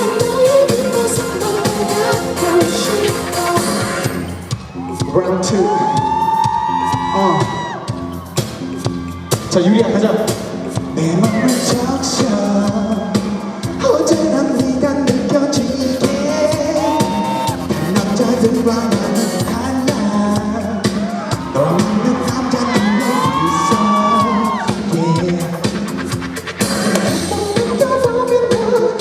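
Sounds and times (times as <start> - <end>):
loud band with steady beat: 0.0 - 29.0.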